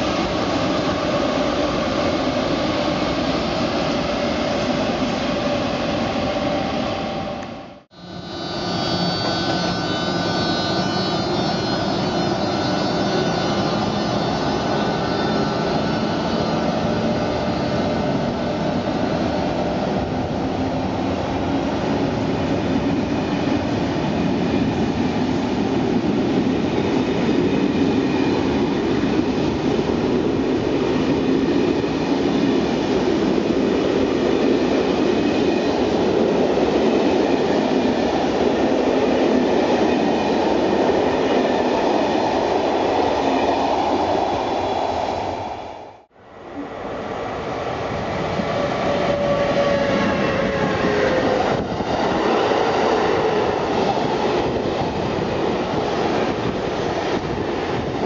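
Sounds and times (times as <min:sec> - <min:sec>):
electric locomotive whine: 0:00.0 - 0:58.0
train wheels rumbling on rails: 0:08.1 - 0:45.8, 0:46.6 - 0:58.0.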